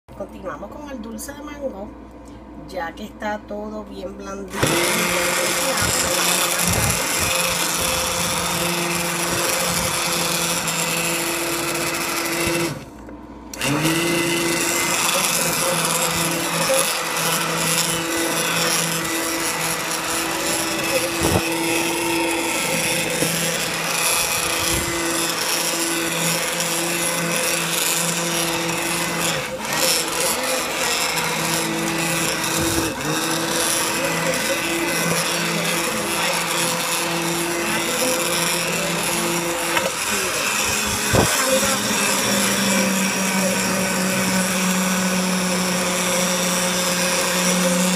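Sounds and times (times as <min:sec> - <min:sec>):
blender motor running: 0:04.5 - 0:47.9.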